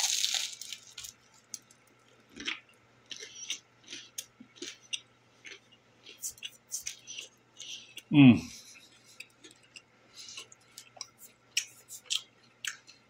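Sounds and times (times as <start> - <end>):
person chewing crusty bread: 0.0 - 13.0.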